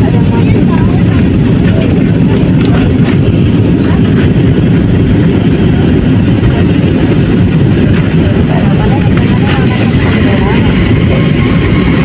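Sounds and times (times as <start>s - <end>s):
jet airliner cabin roar: 0.0s - 12.0s.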